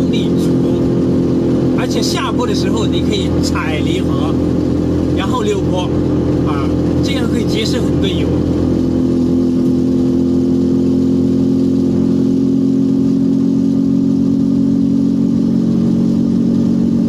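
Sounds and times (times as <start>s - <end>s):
small vehicle engine drone: 0.0s - 17.0s.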